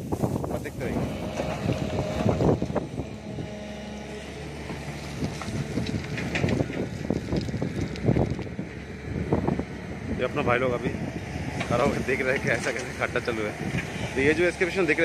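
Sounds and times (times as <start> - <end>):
wind buffeting microphone: 0.0 - 15.0
excavator diesel engine running: 0.6 - 15.0.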